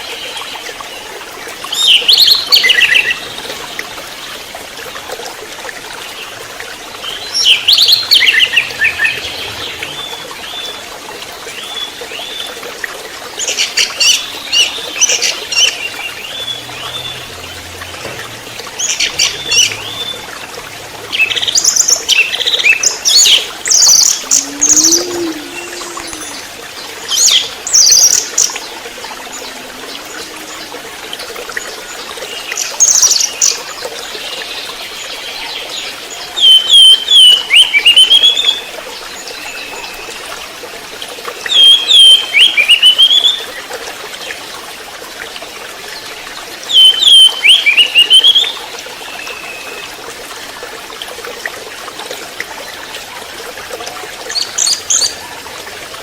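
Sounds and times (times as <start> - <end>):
running water trickling: 0.0 - 56.0.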